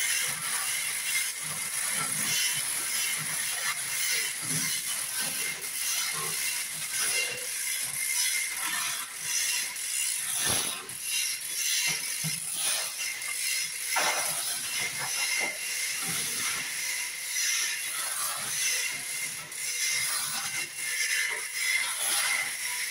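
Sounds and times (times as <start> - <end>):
ratchet pawl clicking: 0.0 - 22.9.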